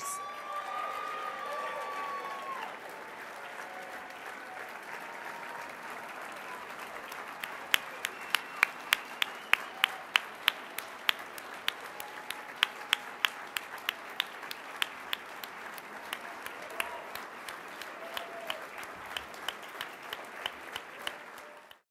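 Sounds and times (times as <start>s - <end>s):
audience applauding: 0.0s - 21.8s
person clapping sharply: 2.5s - 21.8s.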